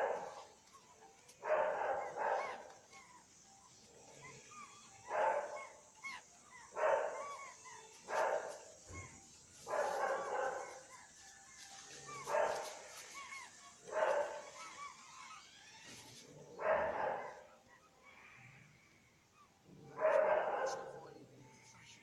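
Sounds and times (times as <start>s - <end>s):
animal barking calls: 0.0s - 21.4s.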